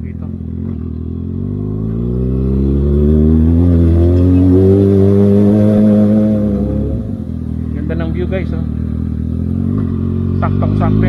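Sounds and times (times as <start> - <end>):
motorcycle engine pulling uphill: 0.0 - 11.0.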